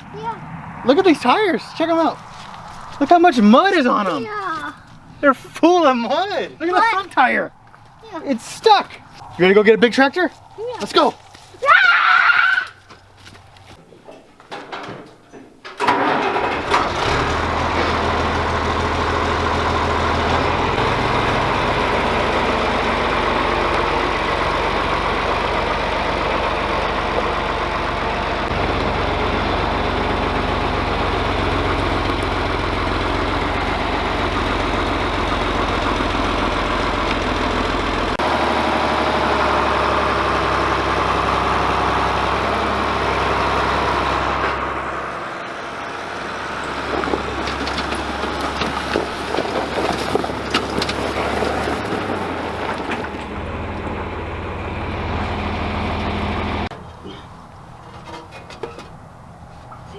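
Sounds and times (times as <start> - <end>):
tractor engine running: 0.0 - 11.6, 15.8 - 59.9.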